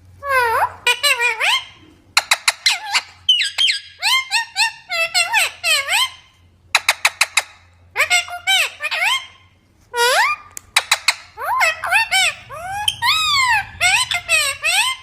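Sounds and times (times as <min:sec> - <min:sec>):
parrot chattering: 0:00.2 - 0:15.0.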